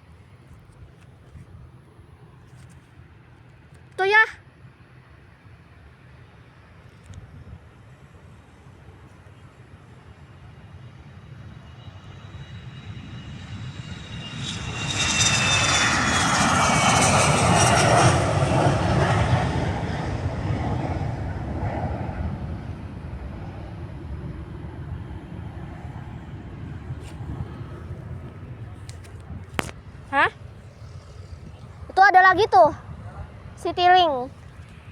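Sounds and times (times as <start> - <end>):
jet engines on takeoff: 0.0 - 34.9.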